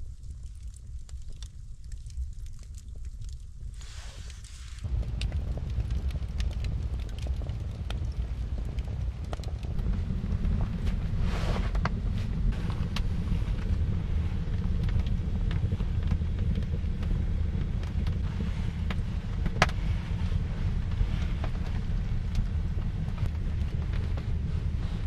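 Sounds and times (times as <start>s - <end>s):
wind buffeting microphone: 4.8s - 25.0s.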